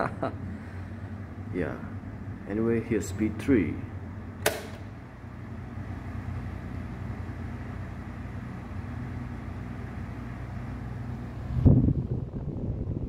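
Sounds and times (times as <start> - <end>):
table fan running: 0.0 - 13.0.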